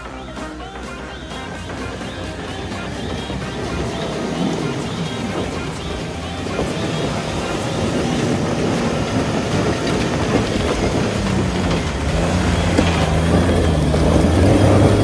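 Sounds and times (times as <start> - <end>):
tyre noise on rough road: 0.0 - 15.0
vehicle engine running: 0.0 - 15.0.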